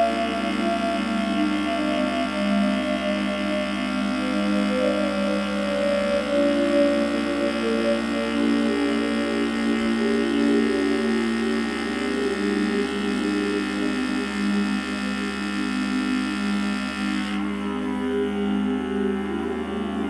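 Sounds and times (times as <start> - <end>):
slow droning background music: 0.0 - 20.0.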